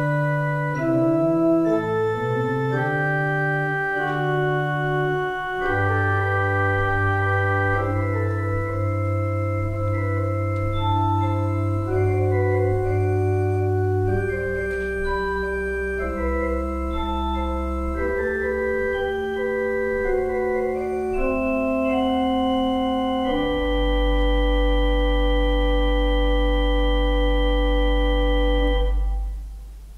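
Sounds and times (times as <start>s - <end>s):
organ playing slow chords: 0.0s - 29.9s.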